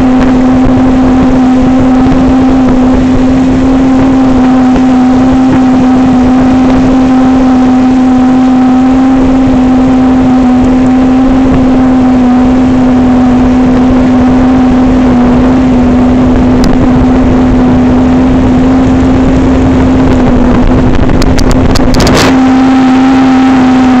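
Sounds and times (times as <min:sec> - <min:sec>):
motorboat engine running: 0:00.0 - 0:24.0
water noise: 0:00.0 - 0:24.0
wind noise: 0:00.0 - 0:24.0.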